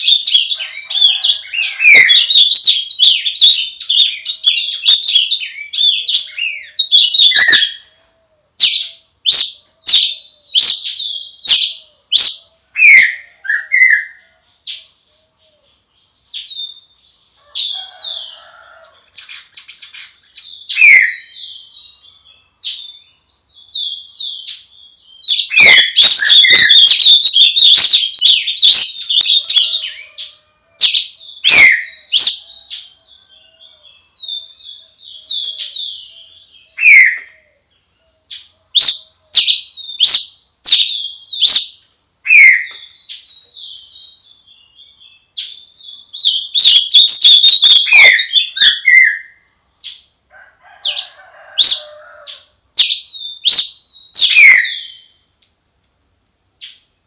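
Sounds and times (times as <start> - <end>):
birds chirping and calling: 0.0 - 55.5, 56.6 - 57.0.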